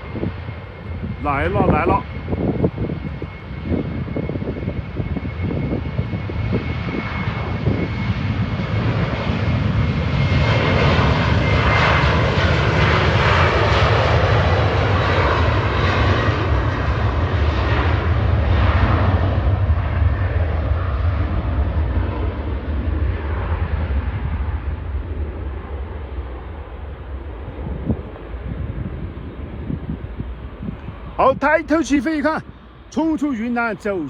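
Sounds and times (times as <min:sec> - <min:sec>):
jet engines roaring at takeoff: 0:00.0 - 0:34.0.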